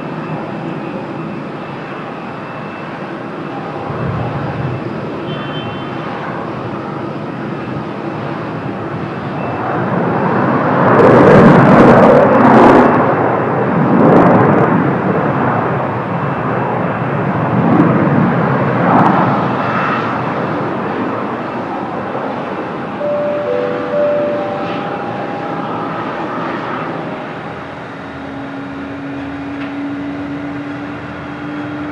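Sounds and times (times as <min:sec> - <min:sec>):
jet airliner engines passing: 0:00.0 - 0:31.9.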